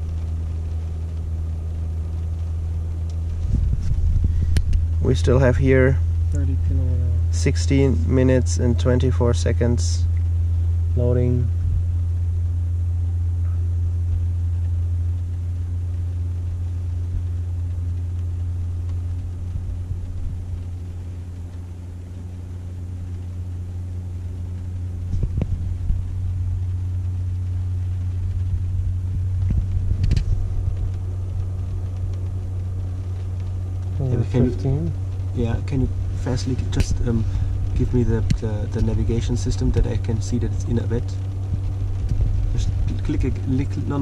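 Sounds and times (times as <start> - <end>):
low drone of car charging: 0.0 - 44.0.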